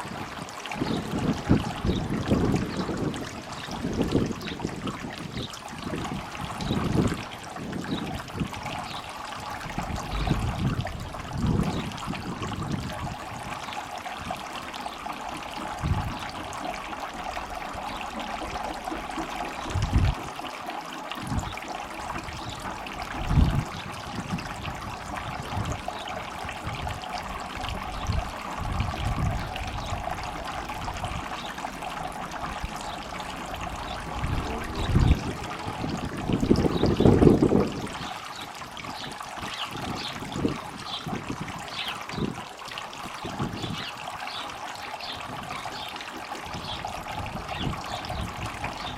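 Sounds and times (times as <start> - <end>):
water trickling and splashing: 0.0 - 48.9.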